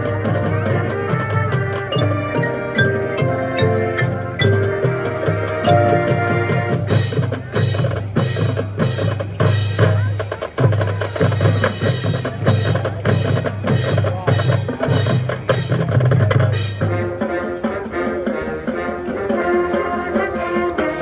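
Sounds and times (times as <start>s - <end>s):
marching band drums: 0.0s - 21.0s.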